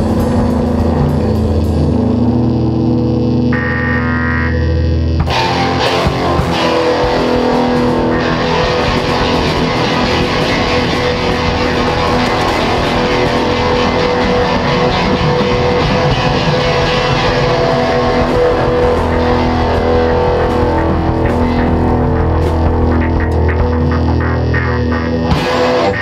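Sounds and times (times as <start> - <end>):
bass guitar: 0.0 - 26.0
distorted electric guitar: 0.0 - 26.0.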